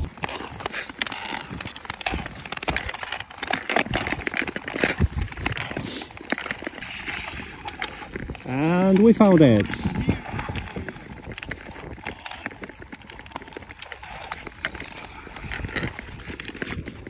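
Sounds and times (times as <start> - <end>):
sharp clicks on ice: 0.0 - 17.0
skate blades scraping on ice: 0.0 - 17.0.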